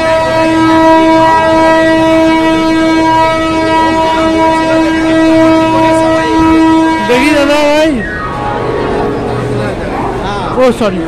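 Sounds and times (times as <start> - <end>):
train horn long note: 0.0 - 10.0
crowded platform noise: 0.0 - 11.0.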